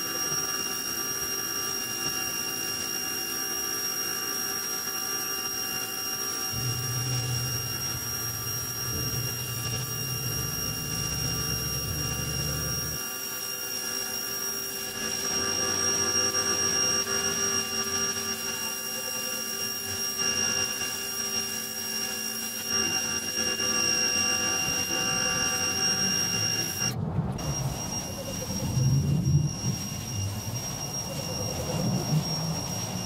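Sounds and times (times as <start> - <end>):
pressure washer motor whine: 0.0 - 33.0.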